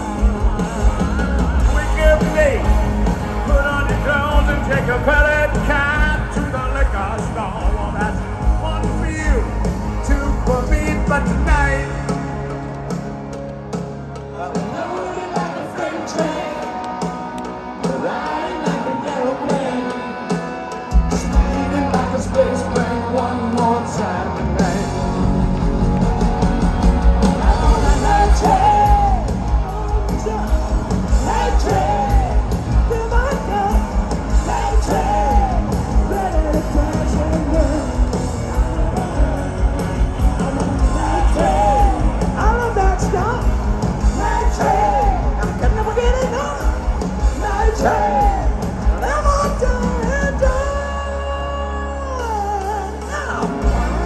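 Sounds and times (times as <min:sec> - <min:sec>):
live hard rock band: 0:00.0 - 0:54.0.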